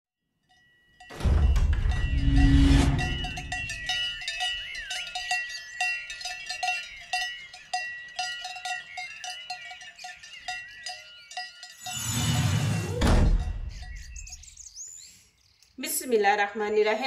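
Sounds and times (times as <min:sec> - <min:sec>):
cowbells clanking: 0:00.4 - 0:14.7
birds chirping: 0:00.6 - 0:17.0.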